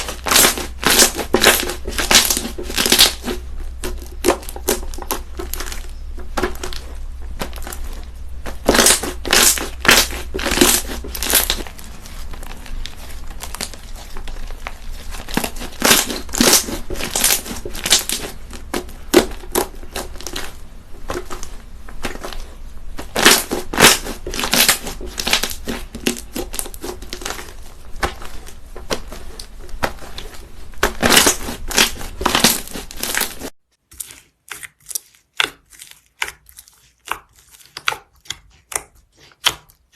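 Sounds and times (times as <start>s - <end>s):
crunchy slime crackling: 0.0s - 39.9s.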